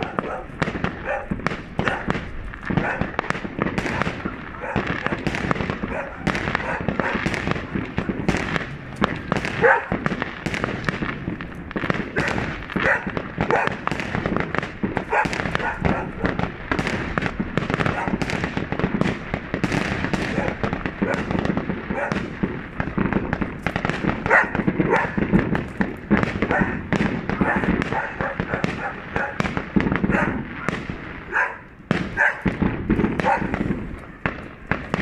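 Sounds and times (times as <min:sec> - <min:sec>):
fireworks crackling and banging: 0:00.0 - 0:35.0.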